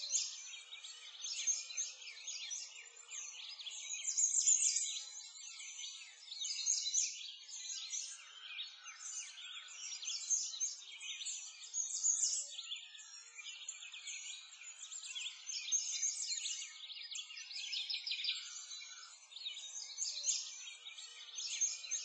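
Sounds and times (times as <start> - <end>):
songbirds chirping and twittering: 0.0 - 22.0.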